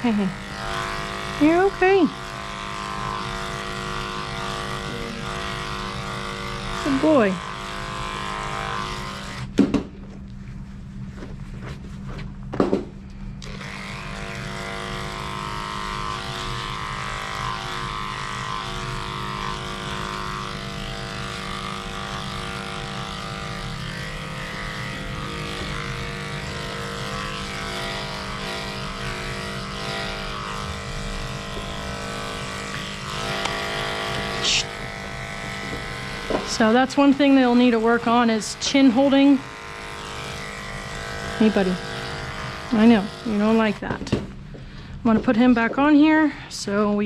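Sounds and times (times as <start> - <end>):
electric clipper humming: 0.0 - 9.9, 12.7 - 47.0.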